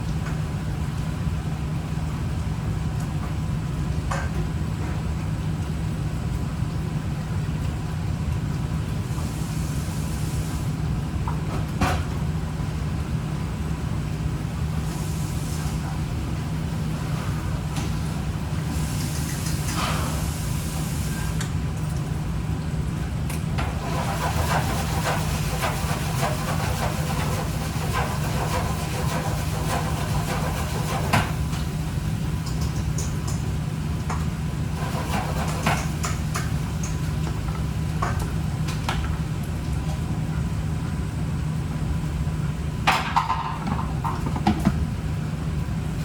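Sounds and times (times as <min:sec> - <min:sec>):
kitchen fan hum: 0:00.0 - 0:46.0.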